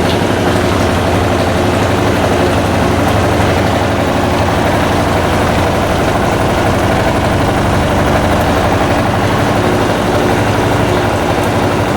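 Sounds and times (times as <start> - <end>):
washing machine motor hum: 0.0 - 11.9.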